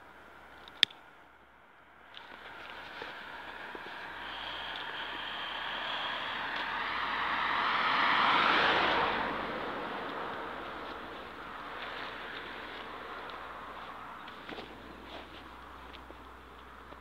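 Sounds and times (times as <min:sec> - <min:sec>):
vehicle passing by: 0:02.2 - 0:17.0.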